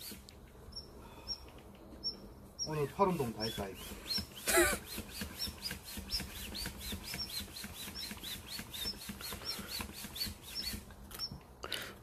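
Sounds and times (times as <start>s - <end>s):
small bird chirping: 0.7s - 4.4s, 5.3s - 11.4s.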